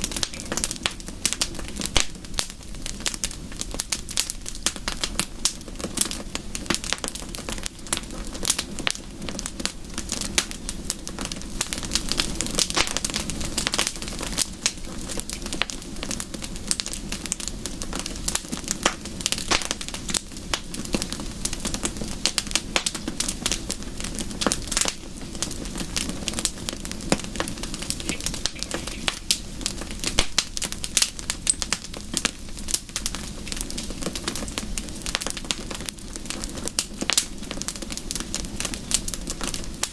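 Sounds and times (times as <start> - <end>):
fire snaps and pops: 0.0 - 39.9
wood fire crackling: 0.0 - 39.9.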